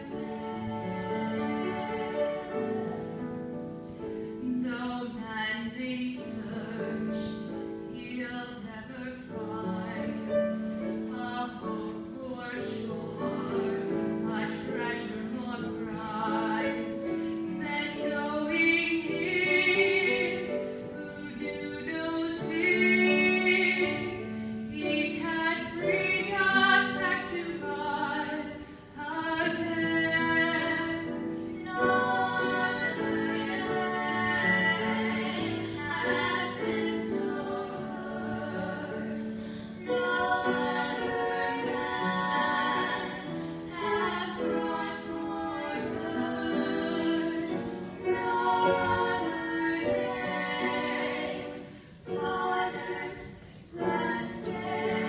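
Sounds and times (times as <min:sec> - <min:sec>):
women singing in parts: 0:00.0 - 0:03.3, 0:04.4 - 0:55.0.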